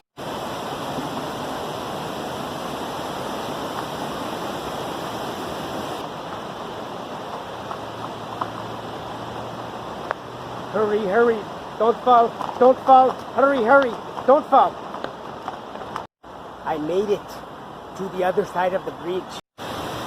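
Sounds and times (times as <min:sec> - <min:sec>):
waterfall roaring: 0:00.2 - 0:20.0.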